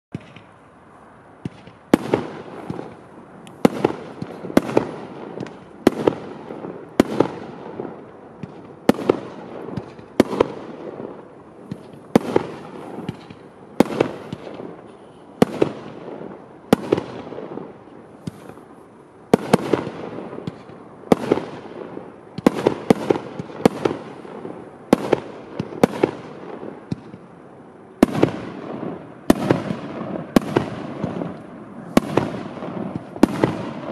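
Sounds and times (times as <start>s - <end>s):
firework bangs with hiss: 0.1s - 0.6s, 1.4s - 33.9s.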